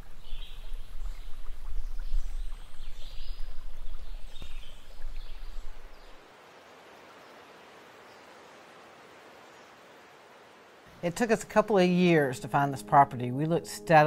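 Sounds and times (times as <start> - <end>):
running water: 0.0 - 14.0.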